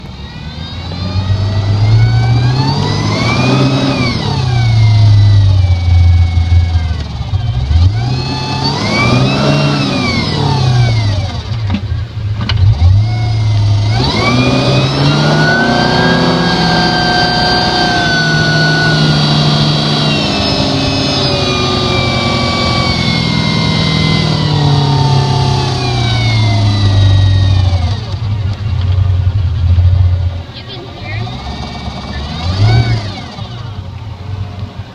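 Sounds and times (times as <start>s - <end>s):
boat engine revving: 0.0s - 34.9s.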